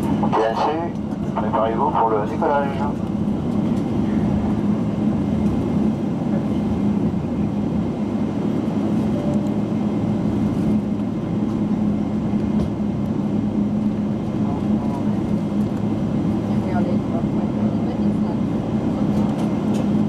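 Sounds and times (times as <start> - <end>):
jet engines in cabin: 0.0 - 20.0.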